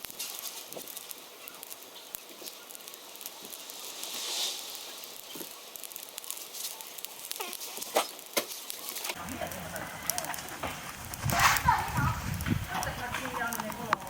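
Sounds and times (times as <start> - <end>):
charcoal fire crackling: 0.0 - 14.0
fire hissing: 0.0 - 14.0.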